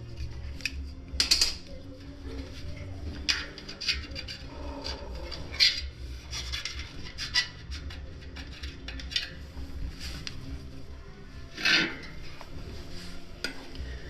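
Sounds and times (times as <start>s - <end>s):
scraping and rubbing on wheel rim: 2.5s - 14.0s.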